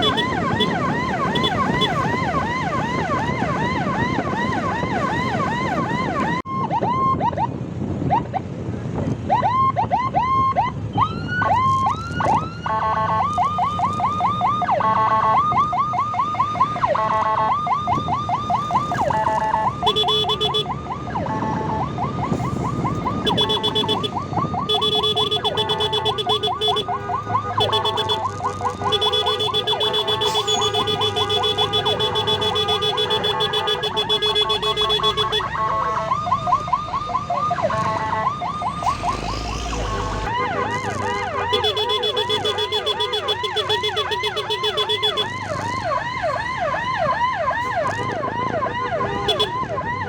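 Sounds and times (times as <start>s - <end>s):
electronic siren: 0.0s - 7.5s, 9.3s - 50.0s
lower steady siren tone: 0.0s - 8.4s, 9.3s - 28.2s, 29.0s - 40.5s, 45.8s - 50.0s
road and engine rumble: 0.0s - 50.0s.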